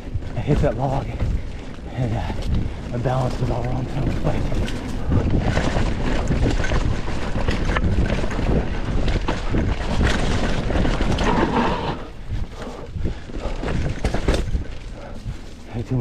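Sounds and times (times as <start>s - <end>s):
mountain bike rattling over trail: 0.0s - 16.0s
wind buffeting microphone: 0.0s - 16.0s.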